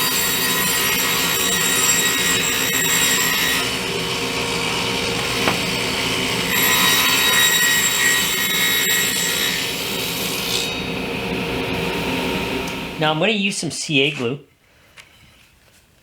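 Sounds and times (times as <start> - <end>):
table saw cutting wood: 0.0 - 13.1.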